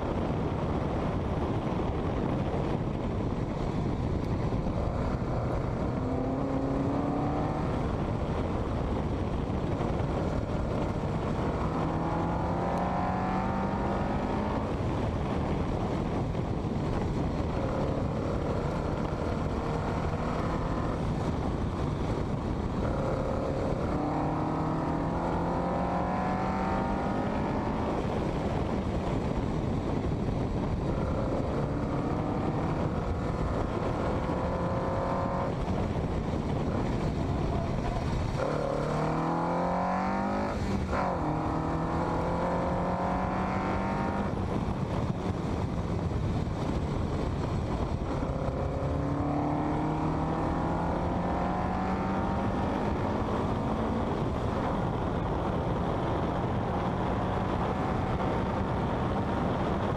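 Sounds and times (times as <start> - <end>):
wind and road noise: 0.0 - 59.9
car engine accelerating hard: 4.2 - 59.9.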